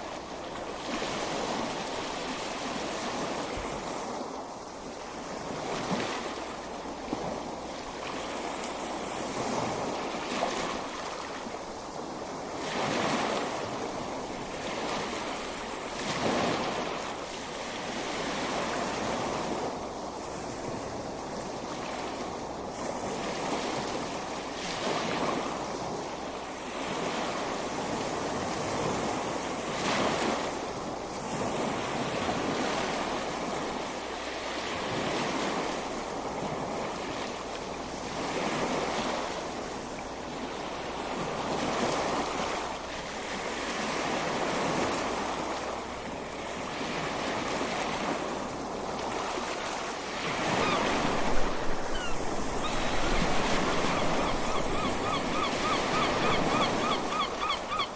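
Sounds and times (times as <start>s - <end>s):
ocean waves breaking on beach: 0.0s - 57.9s.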